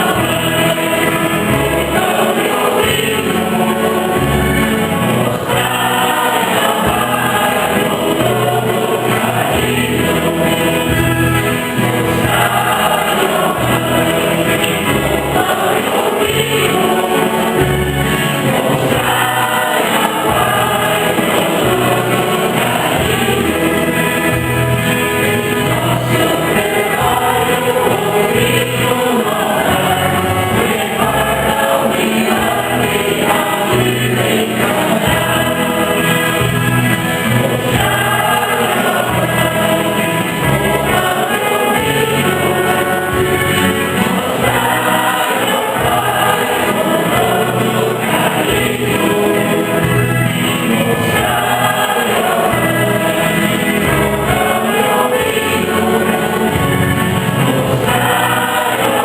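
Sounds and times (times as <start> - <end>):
choir singing a hymn: 0.0 - 59.0
instrumental accompaniment: 0.0 - 59.0.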